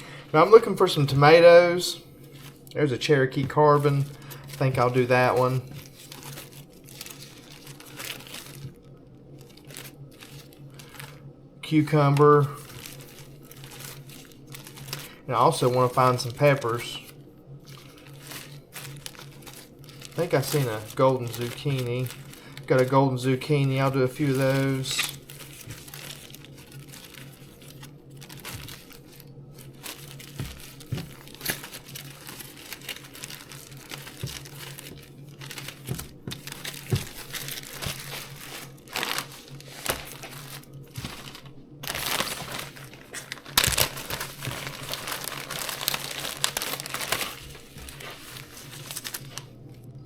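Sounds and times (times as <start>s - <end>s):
seed packets rustling and crinkling: 0.0s - 49.8s
low steady hum: 0.0s - 50.0s.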